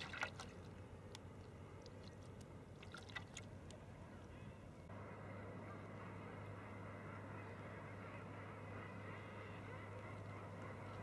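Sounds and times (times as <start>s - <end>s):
distant ship engines droning: 0.0s - 11.0s.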